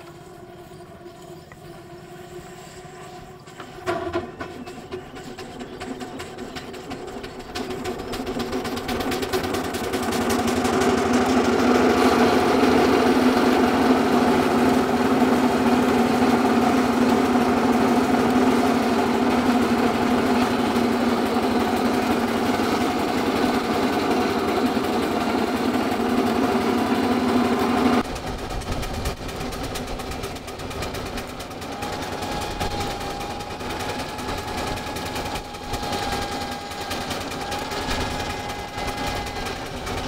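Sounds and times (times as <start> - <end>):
circular saw whining: 0.0 - 40.0.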